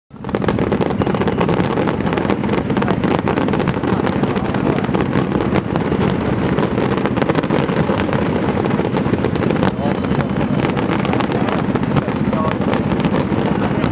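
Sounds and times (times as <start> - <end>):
firework crackles: 0.1 - 13.9
firework shell bursts rumbling: 0.1 - 13.9
wind buffeting microphone: 0.1 - 13.9.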